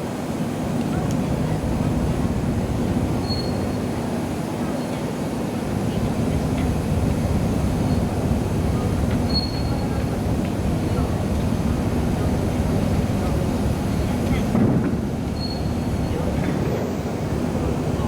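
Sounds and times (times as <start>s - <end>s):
ship engines rumbling: 0.2s - 18.0s.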